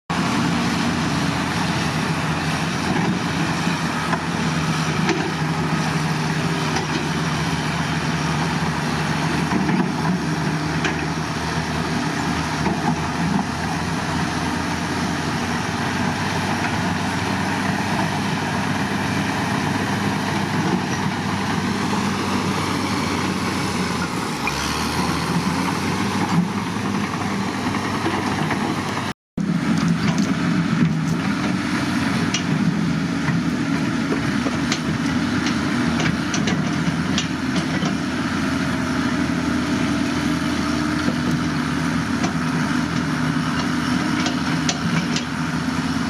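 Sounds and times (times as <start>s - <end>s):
diesel engine running: 0.1s - 46.0s.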